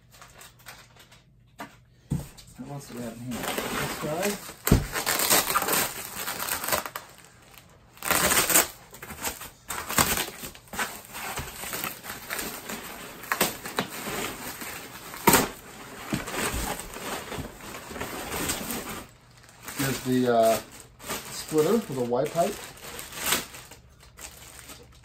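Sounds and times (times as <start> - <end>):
packing material crumpling: 0.0 - 1.3, 2.7 - 25.0.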